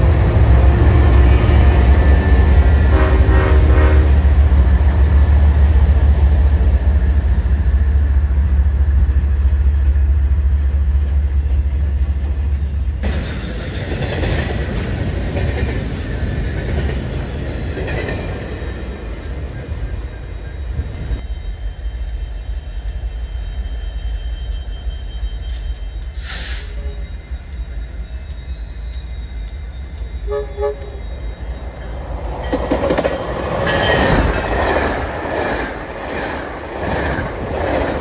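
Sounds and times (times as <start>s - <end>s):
container train clattering and clanking: 0.0s - 21.2s, 26.8s - 38.0s
diesel locomotive engine rumble: 0.0s - 38.0s.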